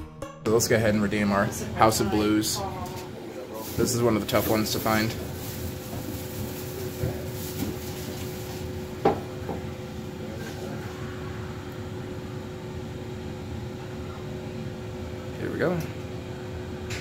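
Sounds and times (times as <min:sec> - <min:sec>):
two-note electrical hum: 0:00.2 - 0:17.0.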